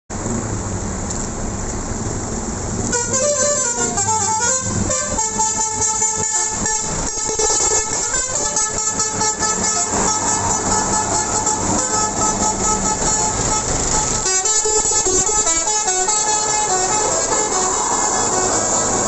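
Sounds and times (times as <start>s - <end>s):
bus engine: 0.1s - 19.0s
road noise: 0.1s - 19.0s
multi-tone bus horn tune: 2.8s - 19.0s.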